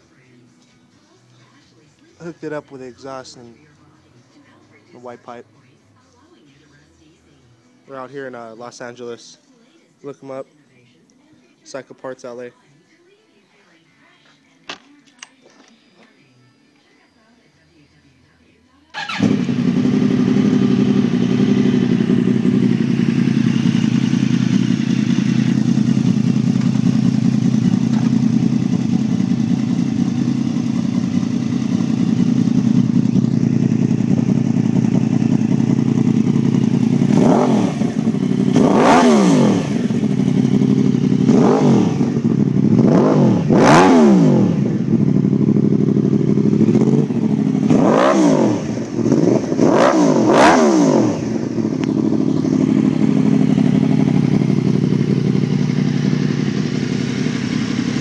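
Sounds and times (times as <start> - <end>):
motorcycle engine idling and revving: 0.0 - 7.4, 18.9 - 58.0.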